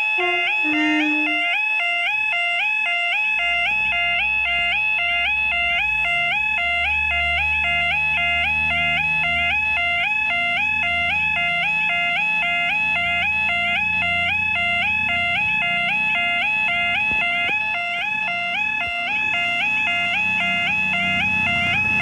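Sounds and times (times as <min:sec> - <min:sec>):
level crossing alarm warble: 0:00.0 - 0:22.0.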